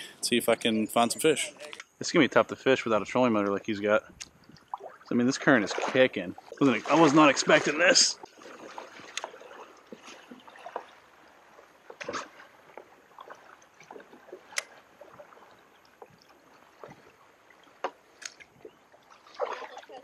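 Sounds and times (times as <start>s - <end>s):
water lapping against hull: 2.9s - 20.0s.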